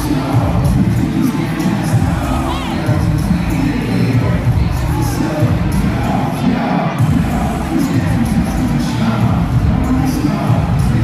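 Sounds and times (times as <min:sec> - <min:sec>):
concert crowd noise: 0:00.0 - 0:11.0
live hip-hop music with heavy bass: 0:00.0 - 0:11.0.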